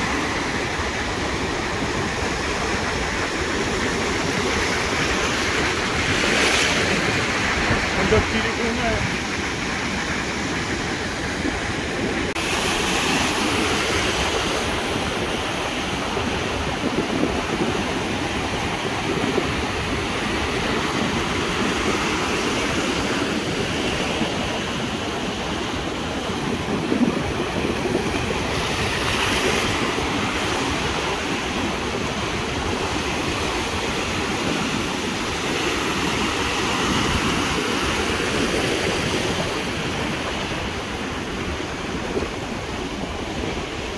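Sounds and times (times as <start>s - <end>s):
surf breaking against breakwater: 0.0s - 43.9s.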